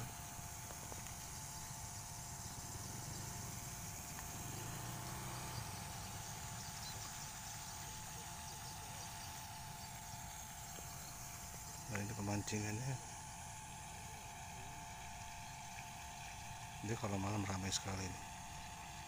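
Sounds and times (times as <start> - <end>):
insects chirring: 0.0 - 19.0
steady hum: 0.0 - 19.0.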